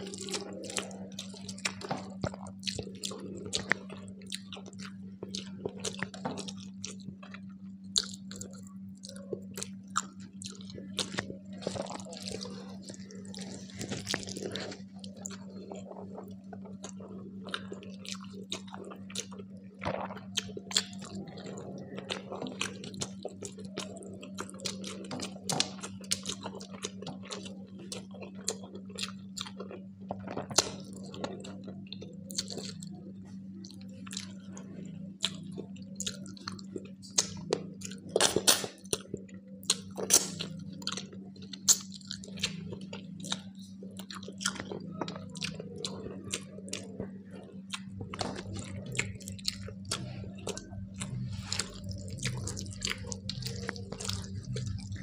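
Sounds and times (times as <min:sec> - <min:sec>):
chewing and mouth sounds: 0:00.0 - 0:55.0
low hum: 0:00.0 - 0:55.0.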